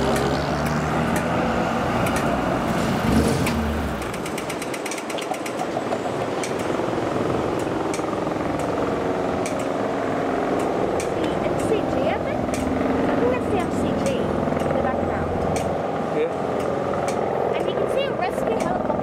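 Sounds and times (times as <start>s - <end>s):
wheels clicking over rail joints: 0.0s - 9.8s, 10.5s - 15.8s, 16.5s - 19.0s.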